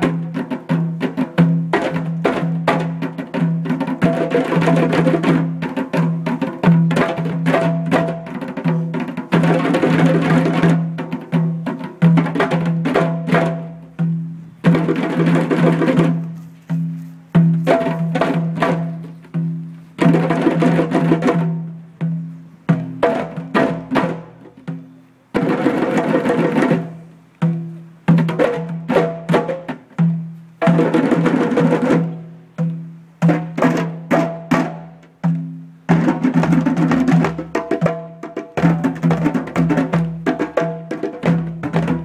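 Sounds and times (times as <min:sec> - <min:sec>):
group of hand drums playing: 0:00.0 - 0:42.0.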